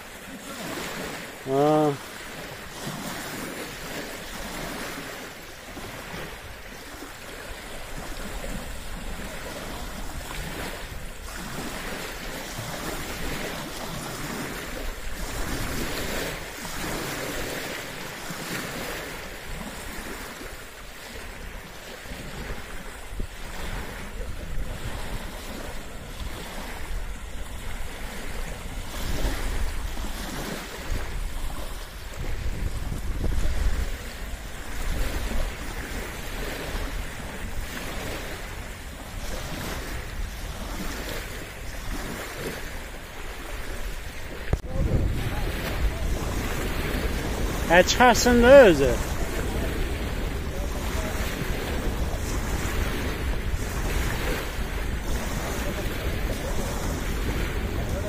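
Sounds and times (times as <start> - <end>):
waves lapping on stony shore: 0.0 - 58.0
wind blowing across microphone: 0.0 - 58.0.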